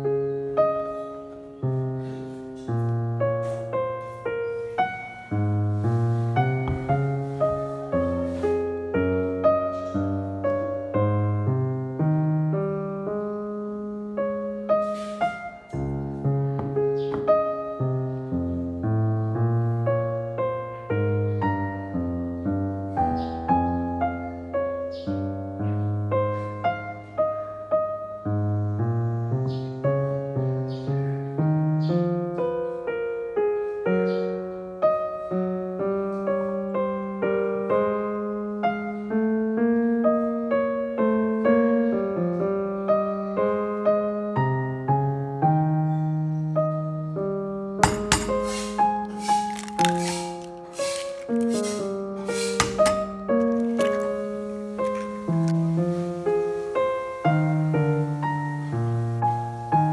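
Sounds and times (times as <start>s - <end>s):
gentle piano music: 0.0s - 59.9s.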